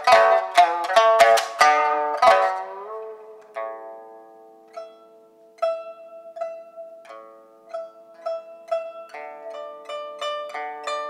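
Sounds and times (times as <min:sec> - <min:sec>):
plucked melody: 0:00.0 - 0:11.0.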